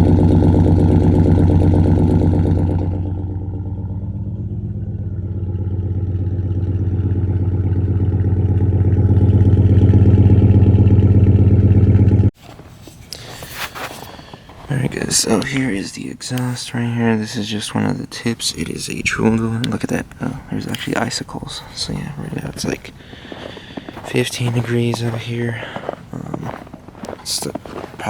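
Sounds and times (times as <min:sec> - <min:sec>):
engine exhaust running: 0:00.0 - 0:15.7, 0:18.8 - 0:28.0.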